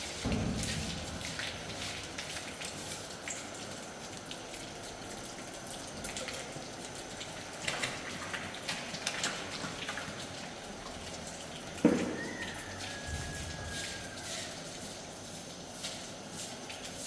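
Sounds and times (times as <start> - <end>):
water pattering and dripping: 0.0 - 17.0.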